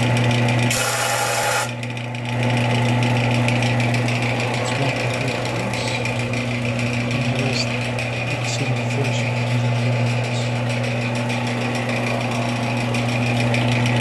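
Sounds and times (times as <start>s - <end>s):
electric sander humming: 0.0s - 14.0s.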